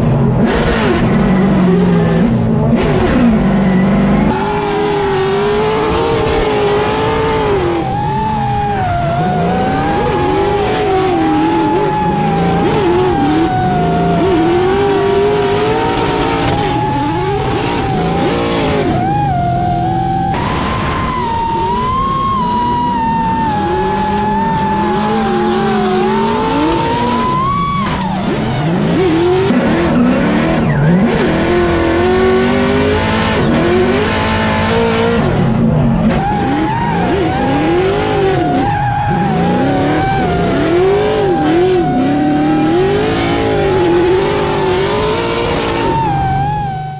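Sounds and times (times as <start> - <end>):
car engines revving: 0.0 - 46.9
tyres squealing and skidding: 0.7 - 35.3, 36.0 - 46.9.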